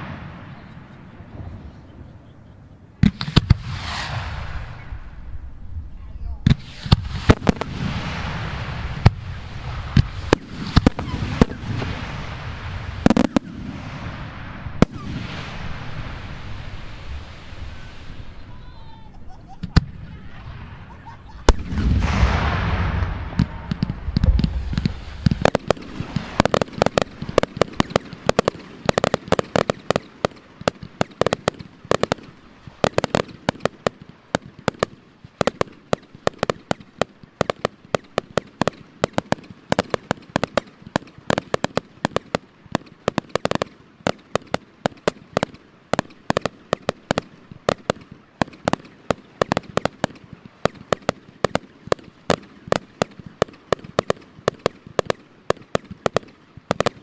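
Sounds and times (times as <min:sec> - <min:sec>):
firework bang: 0:00.0 - 0:01.8, 0:03.0 - 0:18.6, 0:19.6 - 0:57.0
rumbling firework bursts: 0:00.0 - 0:57.0
firework pops and crackles: 0:03.0 - 0:04.9, 0:06.4 - 0:18.5, 0:19.5 - 0:57.0.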